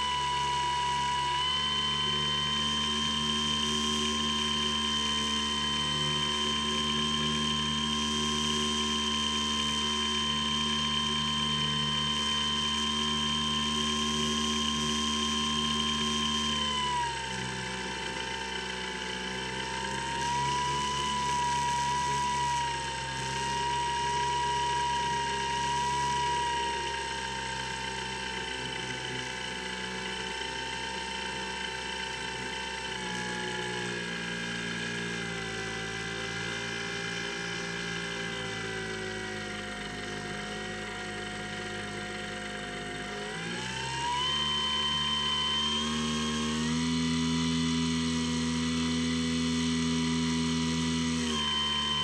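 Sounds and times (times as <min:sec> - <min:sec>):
model plane motor whine: 0:00.0 - 0:52.0.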